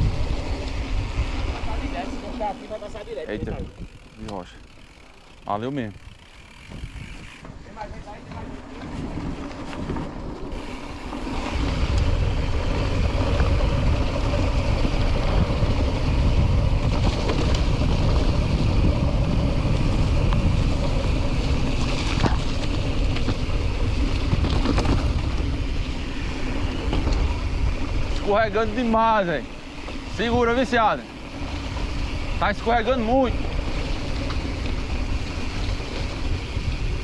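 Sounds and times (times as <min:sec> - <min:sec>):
wind rumbling on microphone: 0:00.0 - 0:04.8, 0:05.8 - 0:37.0
bike tyres on dirt trail: 0:00.0 - 0:37.0.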